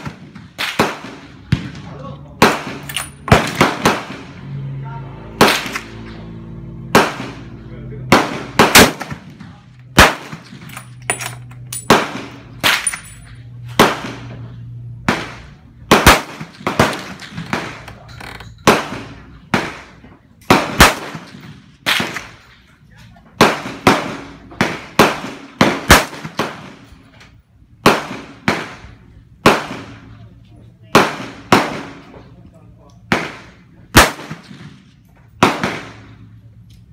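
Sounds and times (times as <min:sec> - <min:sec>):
rifle gunshots with echo: 0:00.0 - 0:04.5, 0:05.3 - 0:18.0, 0:18.6 - 0:22.5, 0:23.4 - 0:27.1, 0:27.8 - 0:30.3, 0:30.9 - 0:32.2, 0:33.0 - 0:36.4.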